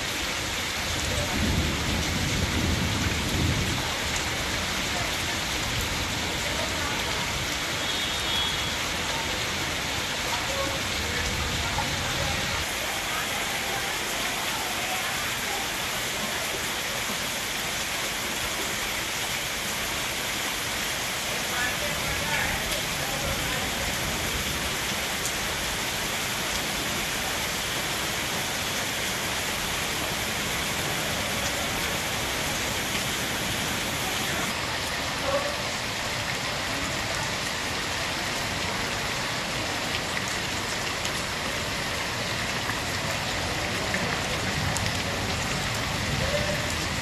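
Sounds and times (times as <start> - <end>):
heavy rain on a flooded street: 0.0 - 47.0.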